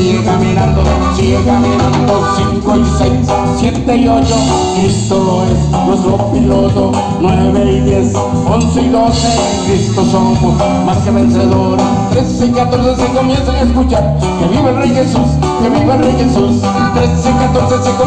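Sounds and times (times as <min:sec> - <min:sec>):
button accordion: 0:00.0 - 0:08.6, 0:09.2 - 0:18.0
bass guitar: 0:00.0 - 0:18.0
congas: 0:00.0 - 0:18.0
drum kit: 0:00.0 - 0:18.0
live band playing latin dance music: 0:00.0 - 0:18.0.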